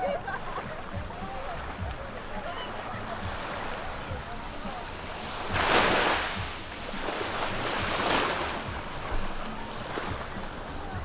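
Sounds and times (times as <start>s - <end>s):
waves washing up a sandy beach: 0.0s - 11.0s.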